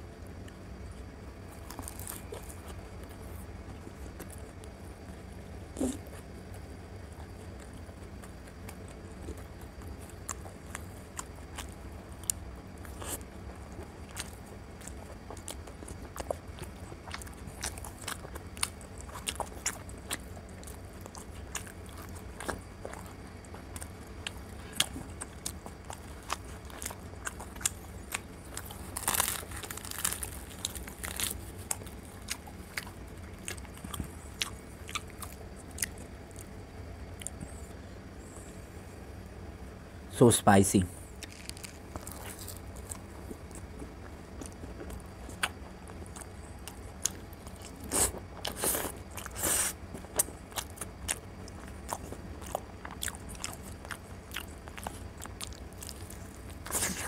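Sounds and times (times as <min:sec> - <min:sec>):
person chewing food: 0:00.4 - 0:36.5, 0:37.1 - 0:38.6, 0:41.1 - 0:57.0.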